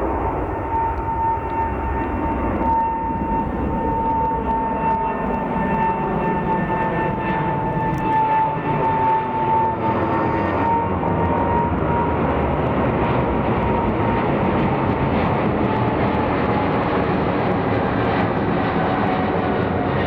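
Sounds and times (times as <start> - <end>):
jet engine whine falling in pitch: 0.0 - 20.0
jet engines roaring: 0.0 - 20.0.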